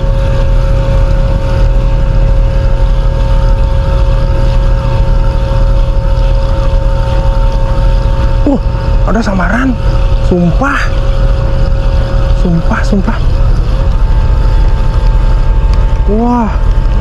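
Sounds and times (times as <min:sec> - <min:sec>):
ferry engine rumble: 0:00.0 - 0:17.0
two-note hum: 0:00.0 - 0:17.0.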